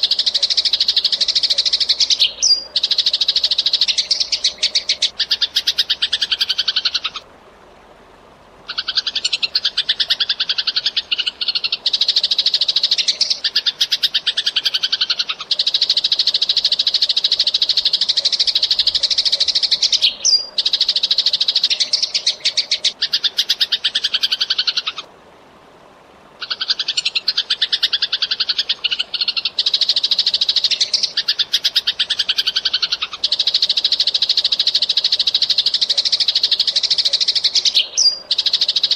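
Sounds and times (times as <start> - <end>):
sparrow chirping: 0.0 - 7.2, 8.7 - 25.0, 26.5 - 38.9.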